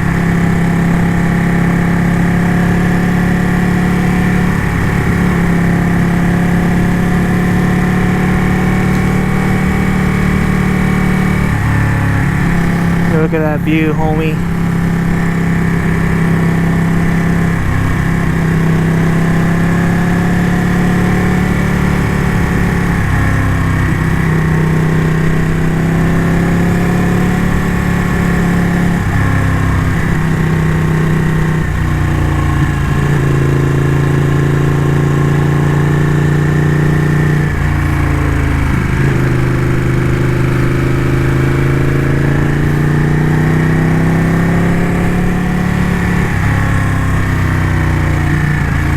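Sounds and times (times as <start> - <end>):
motorcycle engine revving: 0.0 - 13.4, 14.4 - 48.9.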